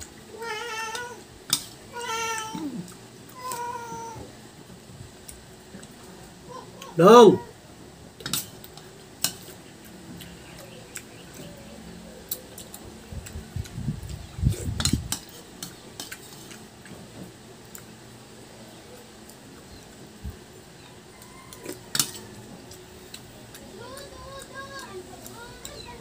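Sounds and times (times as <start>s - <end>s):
eating sounds: 0.0s - 4.1s, 8.3s - 26.0s.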